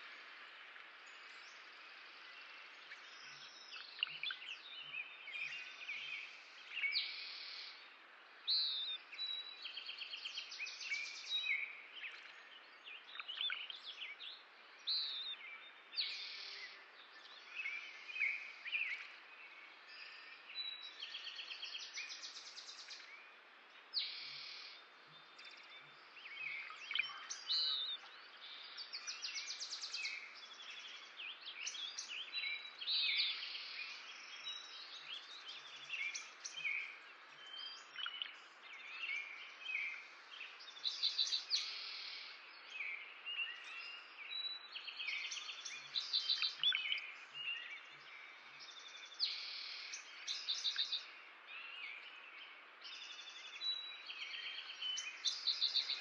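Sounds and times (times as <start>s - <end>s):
faint outdoor hiss: 0.0s - 56.0s
songbirds chirping and singing: 0.0s - 56.0s.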